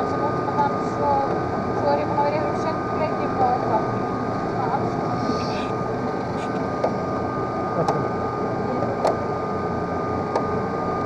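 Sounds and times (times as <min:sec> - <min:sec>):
cable lift humming and whining: 0:00.0 - 0:11.0.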